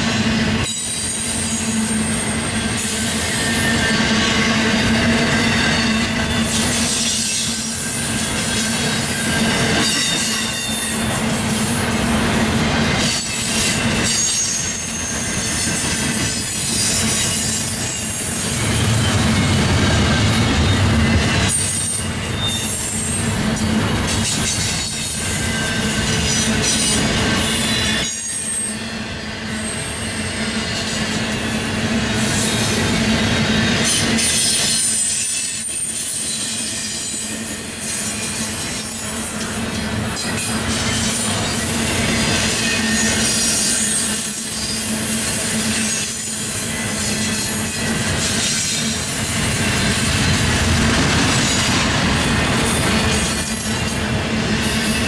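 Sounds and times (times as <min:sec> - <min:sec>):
steel wheels rumbling on rail: 0:00.0 - 0:55.0
high-pitched wheel squeals: 0:00.6 - 0:11.1, 0:13.1 - 0:31.2, 0:32.2 - 0:50.0.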